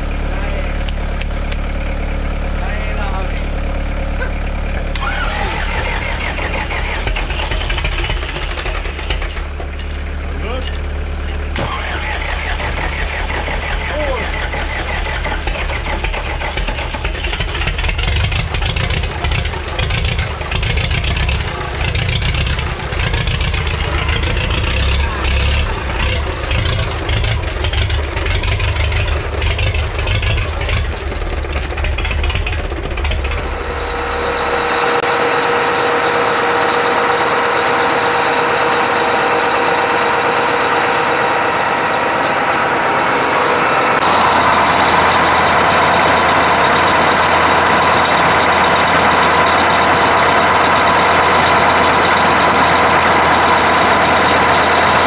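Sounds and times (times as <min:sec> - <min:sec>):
diesel engine clattering: 0:00.0 - 0:55.0
steady engine hum: 0:00.0 - 0:55.0.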